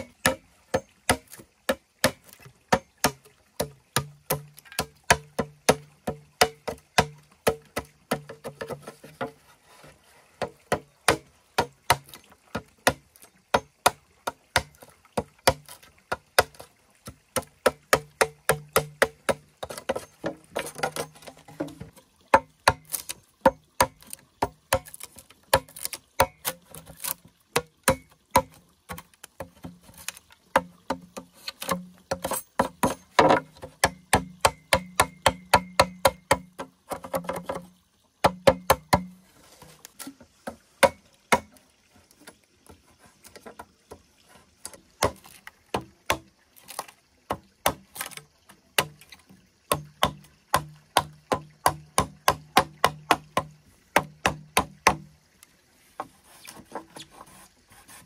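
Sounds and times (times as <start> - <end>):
tool knocking dried bamboo: 0.0 - 9.4, 10.4 - 39.1, 40.8 - 41.6, 45.0 - 48.2, 49.7 - 55.1.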